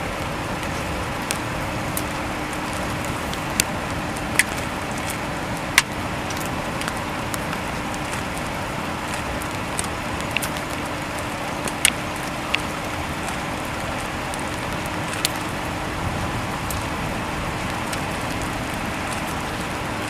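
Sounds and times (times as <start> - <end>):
tornado wind roaring: 0.0 - 20.0.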